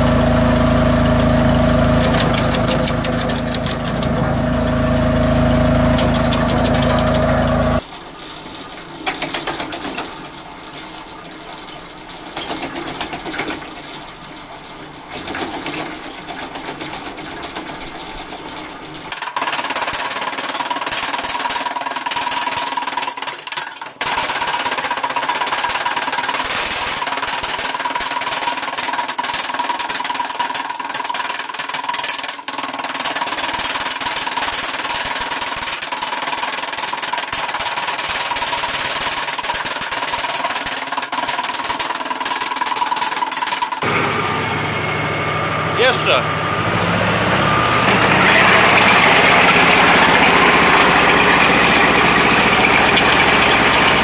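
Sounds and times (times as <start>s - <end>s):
wood chipper whining: 0.0s - 54.0s.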